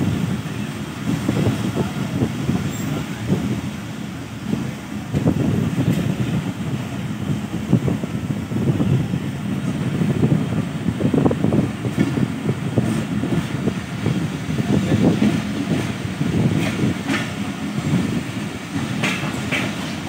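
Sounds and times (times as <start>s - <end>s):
train coach rumbling on track: 0.0s - 20.0s.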